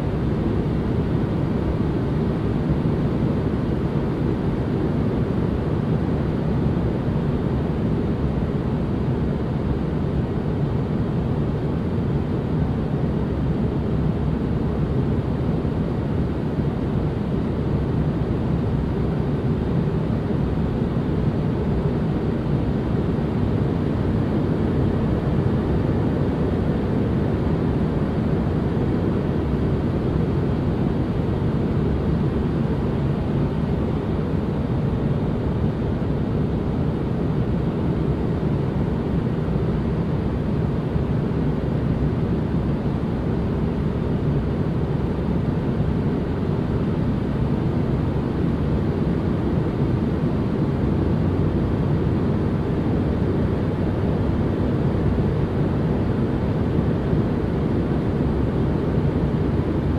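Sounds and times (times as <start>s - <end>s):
low white noise rumble: 0.0s - 59.9s.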